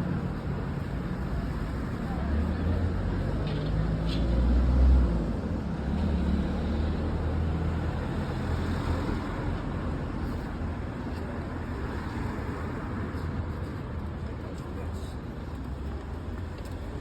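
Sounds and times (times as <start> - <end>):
road traffic hum: 0.0 - 17.0.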